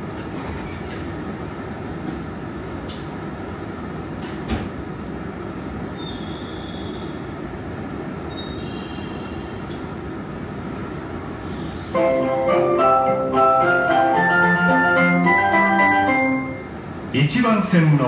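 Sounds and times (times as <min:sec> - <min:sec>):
train equipment low hum: 0:00.0 - 0:18.0.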